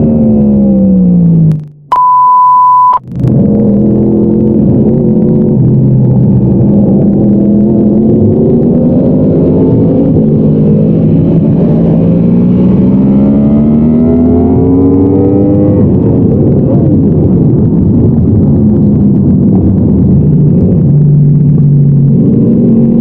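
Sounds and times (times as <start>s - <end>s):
motorcycle engine revving: 3.1s - 23.0s.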